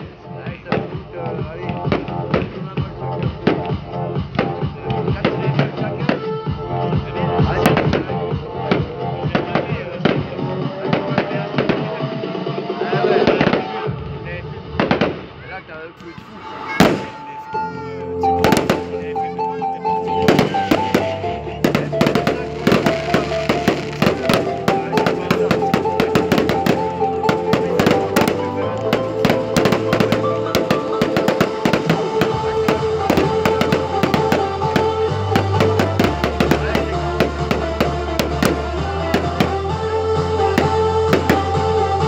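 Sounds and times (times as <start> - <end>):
music with stepping bass line: 0.0 - 13.2, 18.1 - 42.0
fireworks bangs and crackles: 0.7 - 6.3, 7.0 - 14.0, 14.6 - 15.4, 16.0 - 17.4, 18.2 - 19.1, 20.0 - 39.8, 40.4 - 42.0.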